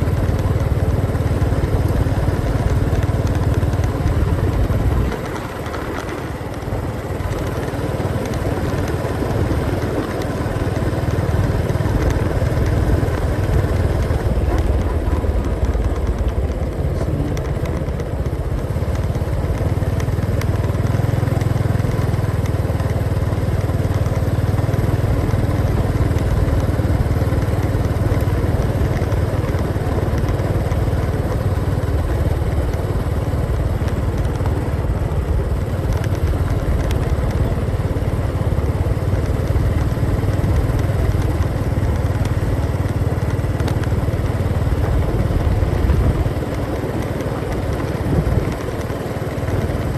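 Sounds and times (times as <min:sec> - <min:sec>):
motorcycle engine rumbling: 0:00.0 - 0:49.9.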